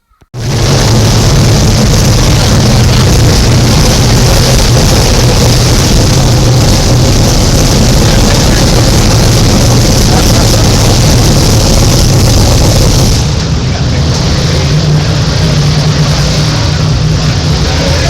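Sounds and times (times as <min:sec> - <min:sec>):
racing car engines droning: 0:00.4 - 0:18.0.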